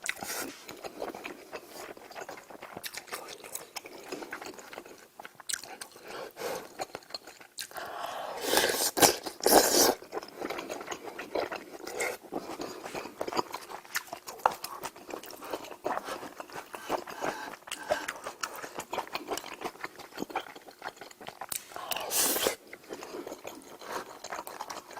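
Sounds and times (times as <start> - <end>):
person chewing with mouth clicks: 0.0 - 24.9.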